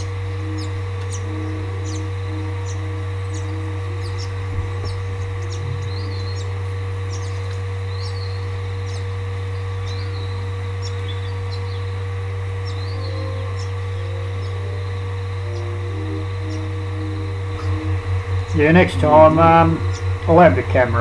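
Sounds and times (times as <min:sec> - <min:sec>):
small birds chirping: 0:00.0 - 0:20.4
steady low hum: 0:00.0 - 0:21.0.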